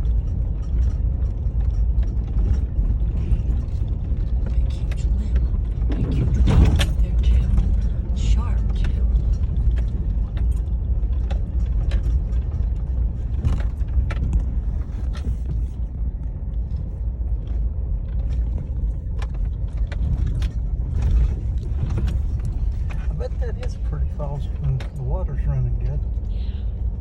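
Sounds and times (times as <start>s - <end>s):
knocks and rattles: 0.0s - 26.3s
vehicle rumble on rough road: 0.0s - 27.0s.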